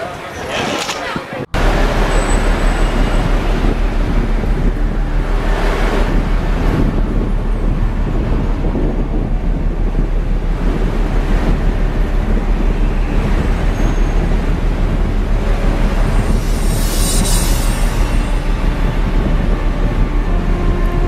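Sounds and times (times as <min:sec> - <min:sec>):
storm wind: 0:00.0 - 0:21.0.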